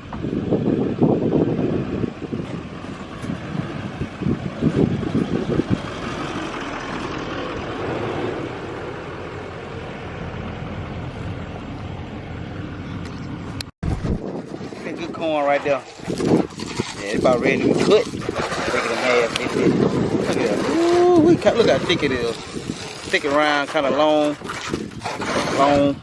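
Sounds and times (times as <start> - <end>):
heavy rumbles: 0.0 - 25.0
vehicle engine and road noise: 0.0 - 26.0.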